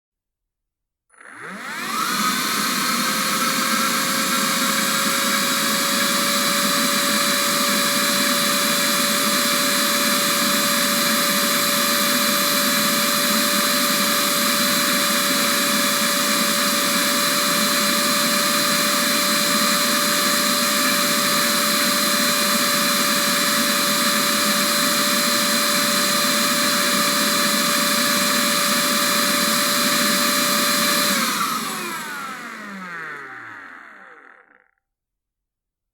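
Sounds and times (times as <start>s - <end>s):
vacuum cleaner motor whirring: 1.1s - 34.7s.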